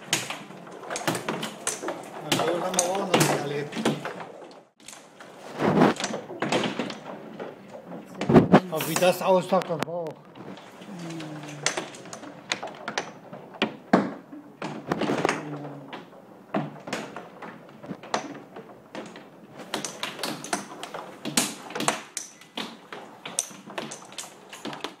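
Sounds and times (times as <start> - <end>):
rain beating on window glass: 0.0 - 25.0.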